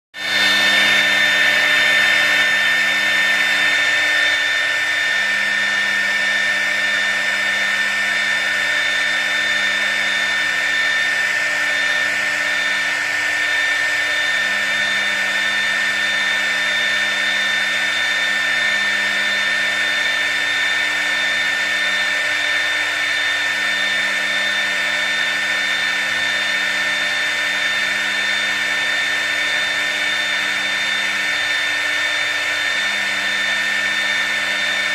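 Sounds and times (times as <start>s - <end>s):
router spindle high whine: 0.2s - 34.9s.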